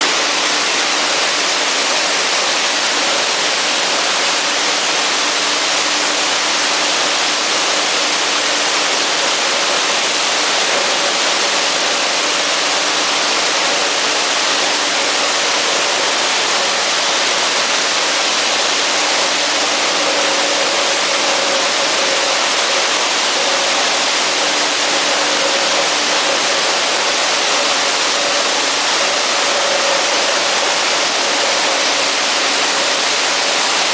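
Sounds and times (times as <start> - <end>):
rushing water and machinery: 0.0 - 33.9.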